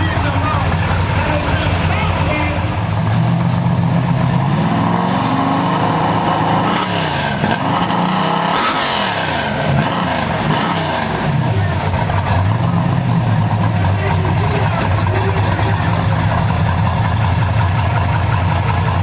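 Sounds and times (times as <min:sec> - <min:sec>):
drag race car engines revving: 0:00.0 - 0:19.0.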